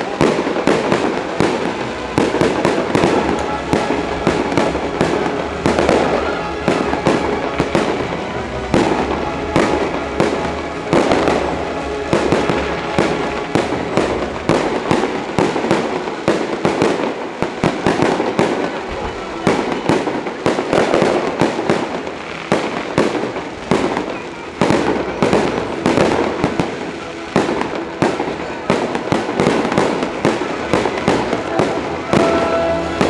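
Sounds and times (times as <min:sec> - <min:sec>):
firework display rumble: 0:00.0 - 0:33.0.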